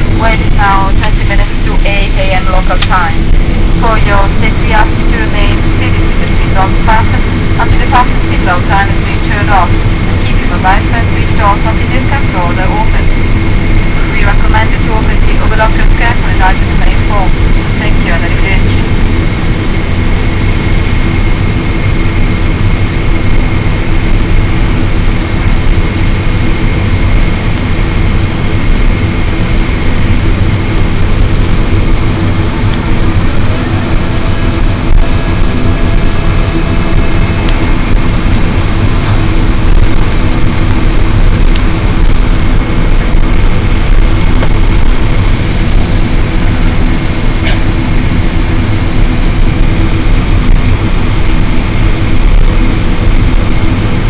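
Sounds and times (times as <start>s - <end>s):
jet engines idling: 0.0s - 54.0s.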